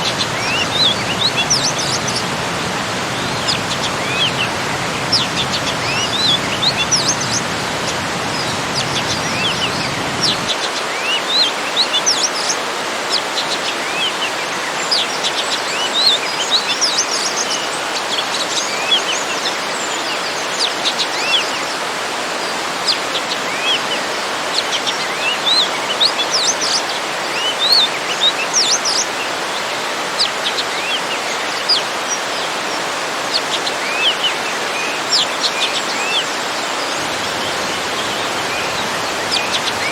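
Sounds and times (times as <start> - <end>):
small birds chirping: 0.0 - 39.9
waterfall rushing: 0.0 - 39.9.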